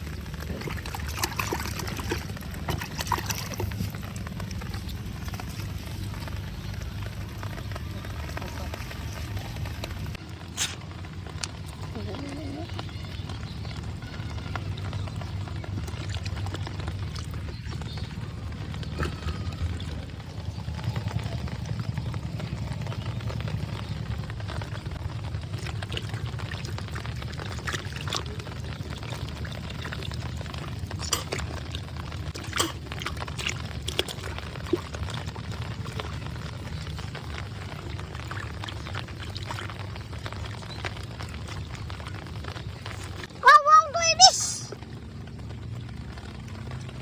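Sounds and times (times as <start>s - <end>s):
water pouring and gushing: 0.0s - 47.0s.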